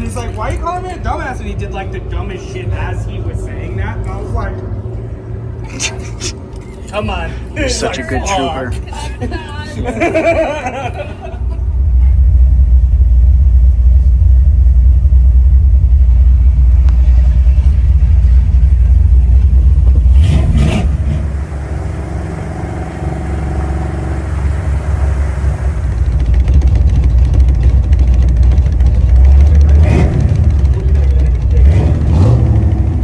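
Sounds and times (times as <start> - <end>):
vehicle engine rumbling: 0.0 - 33.0.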